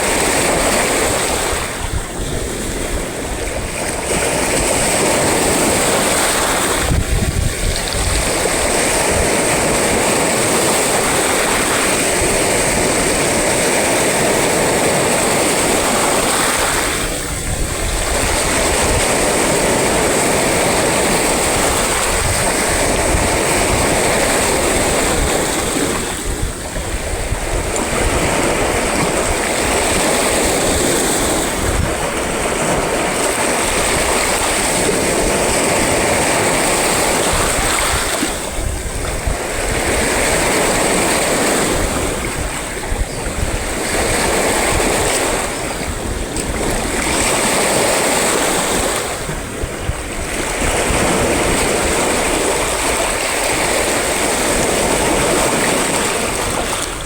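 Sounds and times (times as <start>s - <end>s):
waves breaking and washing: 0.0s - 57.0s.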